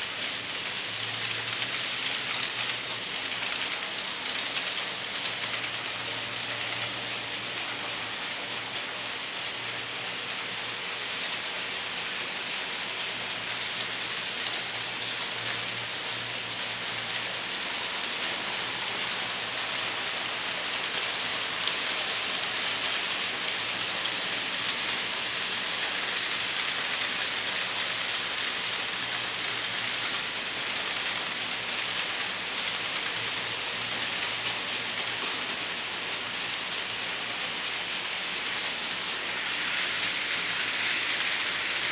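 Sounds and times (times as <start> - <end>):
model train wheels rattling on rails: 0.0 - 41.9.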